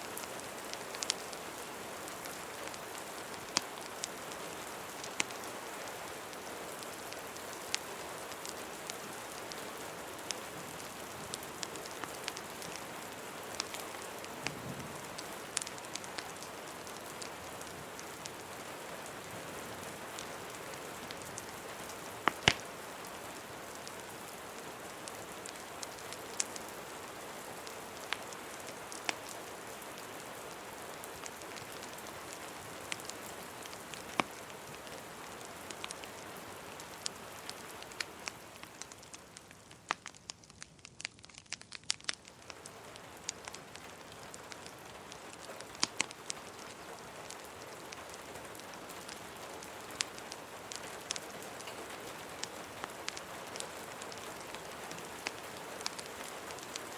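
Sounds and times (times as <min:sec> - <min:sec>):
steady rain hiss: 0:00.0 - 0:56.9
wood fire crackling and popping: 0:00.1 - 0:56.9.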